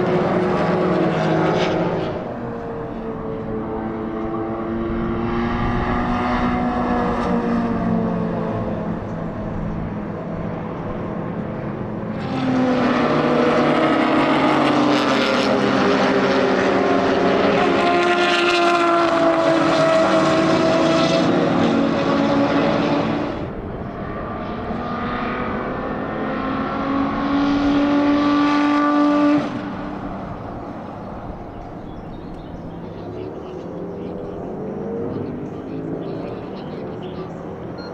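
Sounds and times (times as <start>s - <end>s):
racing car engines at high revs: 0.0s - 37.9s.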